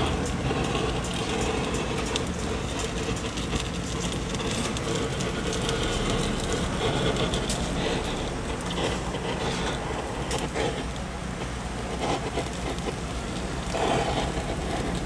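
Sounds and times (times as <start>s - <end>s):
fat crackling and popping: 0.0s - 15.0s
torch hissing: 0.0s - 15.0s.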